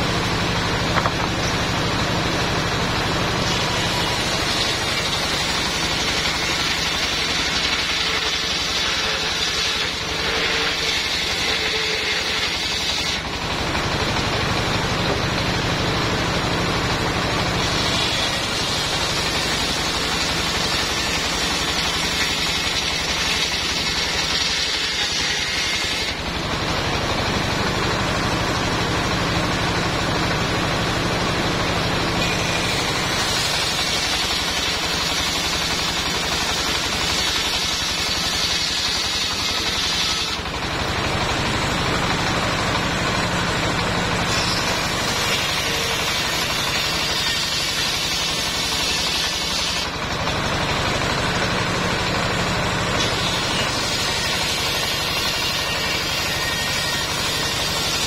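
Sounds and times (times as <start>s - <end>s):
diesel engine running: 0.0s - 58.0s
saw blade cutting whine: 0.0s - 58.0s.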